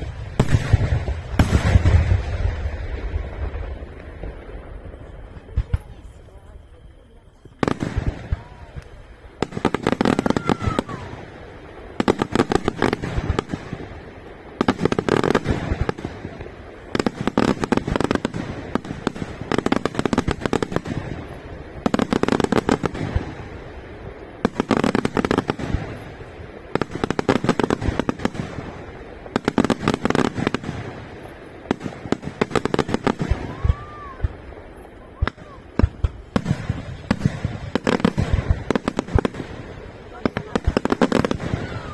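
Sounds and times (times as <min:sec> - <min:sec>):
firework whistling: 0:00.0 - 0:41.9
fireworks bangs and crackling: 0:00.0 - 0:41.9.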